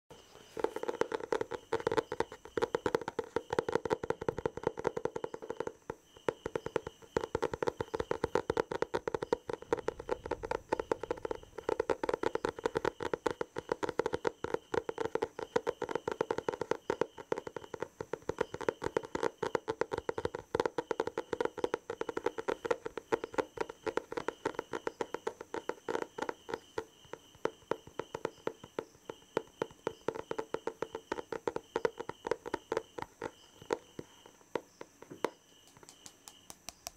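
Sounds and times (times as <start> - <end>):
rapid tapping on hard surface: 0.1 - 36.9.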